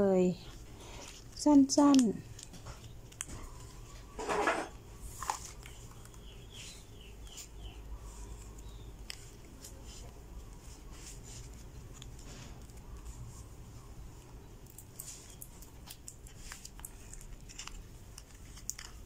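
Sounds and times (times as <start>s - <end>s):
leaf parcel rustling and crinkling: 0.0s - 19.0s.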